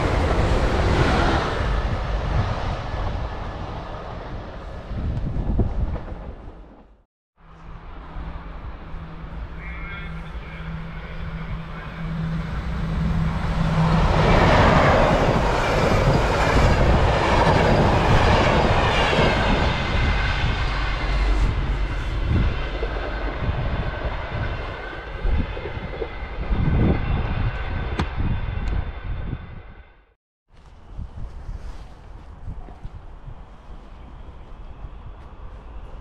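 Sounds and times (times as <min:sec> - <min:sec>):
passenger train passing: 0:00.0 - 0:30.2, 0:30.9 - 0:36.0.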